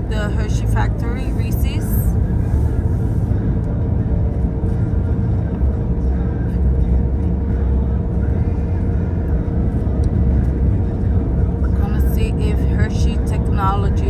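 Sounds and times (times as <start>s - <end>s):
car road and engine rumble: 0.0s - 14.0s
faint steady hum: 0.0s - 14.0s.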